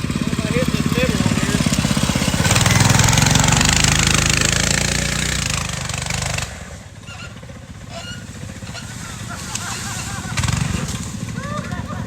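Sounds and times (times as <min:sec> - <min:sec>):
small engine running at high throttle: 0:00.0 - 0:12.0.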